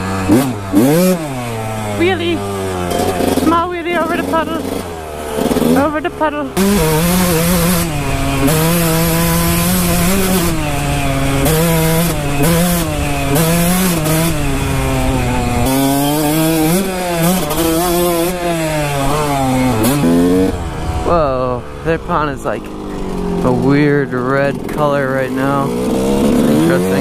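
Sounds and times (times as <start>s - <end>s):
dirt bike engine buzzing: 0.0s - 27.0s.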